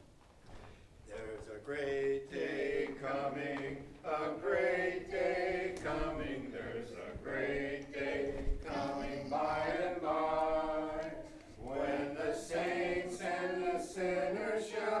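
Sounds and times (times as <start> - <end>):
congregation singing a hymn: 1.1 - 15.0.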